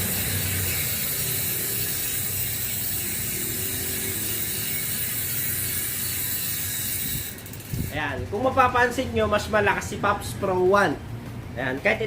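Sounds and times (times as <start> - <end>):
bicycle hub ratcheting buzz: 0.0 - 10.6.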